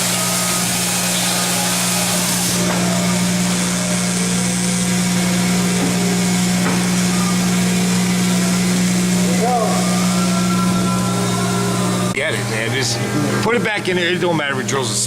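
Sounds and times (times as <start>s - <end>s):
woodworking machinery humming: 0.0s - 15.0s.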